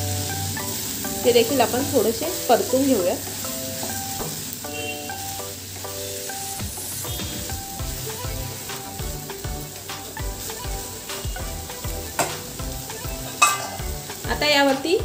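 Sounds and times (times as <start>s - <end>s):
light plucked background music: 0.0s - 15.0s
vegetables sizzling in oil: 0.0s - 15.0s.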